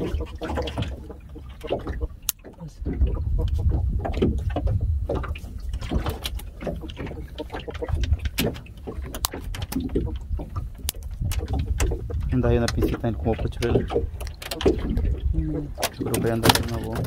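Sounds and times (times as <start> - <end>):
clicks and knocks on boat: 0.0 - 17.0
sea and wind rumble: 0.0 - 17.0.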